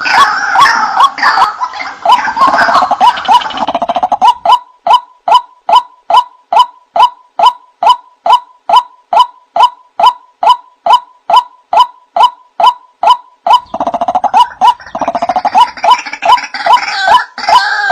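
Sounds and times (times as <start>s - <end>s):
waterhen calling: 0.0s - 17.9s.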